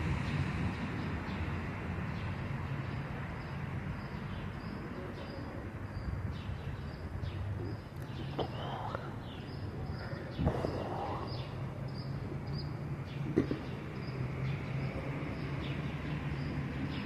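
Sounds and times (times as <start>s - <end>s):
low rumble of traffic: 0.0s - 17.0s
small birds chirping: 0.3s - 17.0s.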